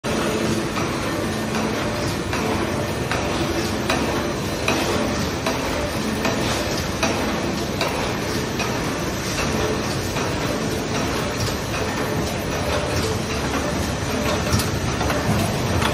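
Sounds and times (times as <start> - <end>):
machine mechanical rattle: 0.1 - 15.9.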